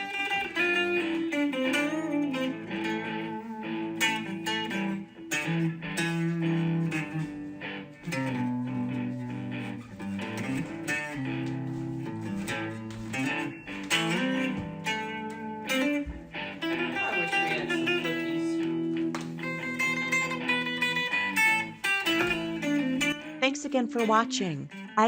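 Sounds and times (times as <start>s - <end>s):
plucked guitar melody: 0.0s - 25.0s.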